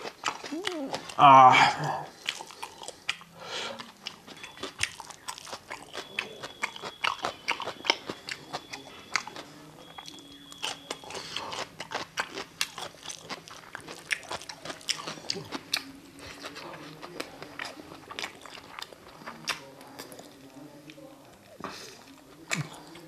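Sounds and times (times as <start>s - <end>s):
chewing crunchy vegetables: 0.0s - 23.0s.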